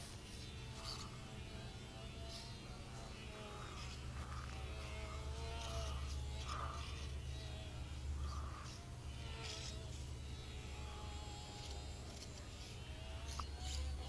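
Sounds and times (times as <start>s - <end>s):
model plane motor whine: 0.0s - 14.0s.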